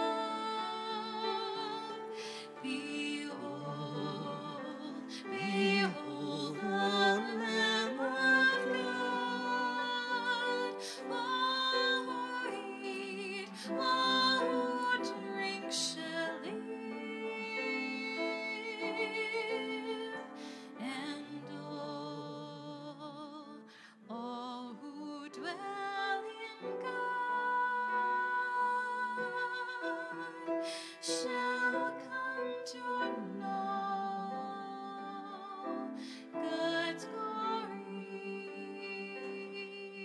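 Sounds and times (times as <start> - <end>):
solo voice singing with vibrato: 0.0 - 40.0.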